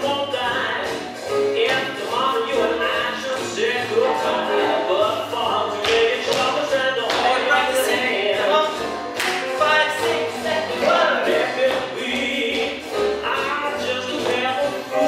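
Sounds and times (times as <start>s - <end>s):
swing jazz with singing: 0.0s - 15.0s.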